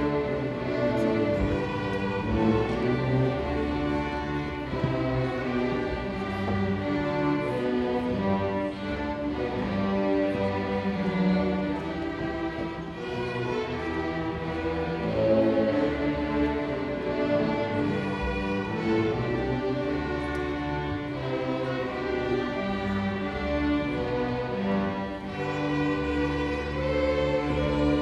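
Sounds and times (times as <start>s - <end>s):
string orchestra playing: 0.0s - 28.0s.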